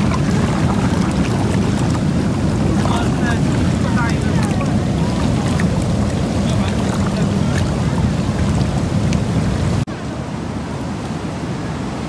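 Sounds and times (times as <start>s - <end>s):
seawater surging around rocks: 0.0s - 12.0s
soft steady surf: 0.0s - 12.0s.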